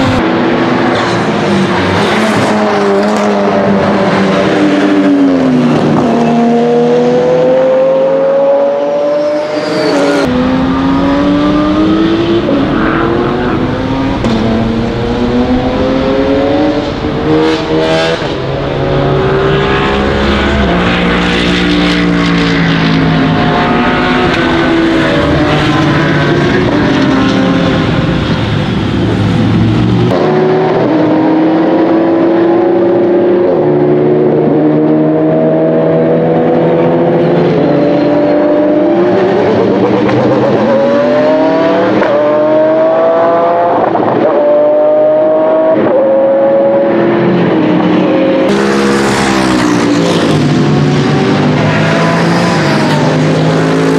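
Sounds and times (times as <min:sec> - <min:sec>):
race car engine accelerating: 0:00.0 - 0:53.9.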